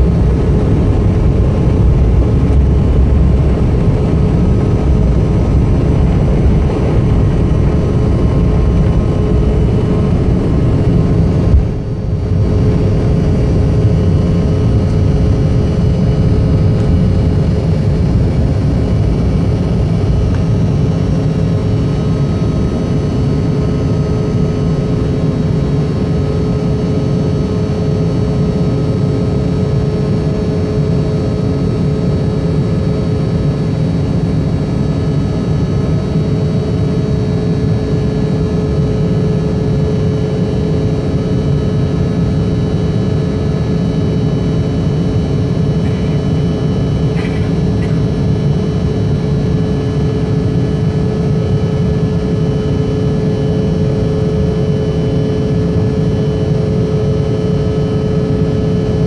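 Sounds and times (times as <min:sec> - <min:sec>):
constant hum tone: 0:00.0 - 0:59.0
jet engine roar in cabin: 0:00.0 - 0:59.0.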